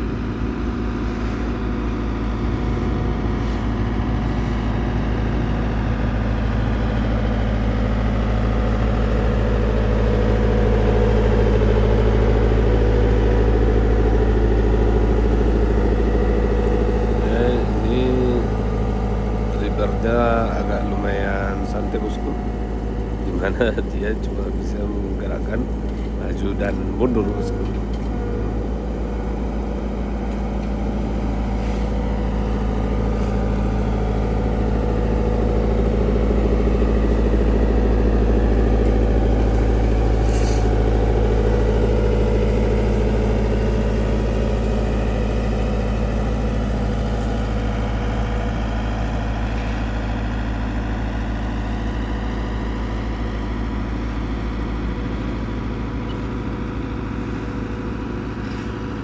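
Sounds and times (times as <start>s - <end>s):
paving machine engine running: 0.0s - 59.0s.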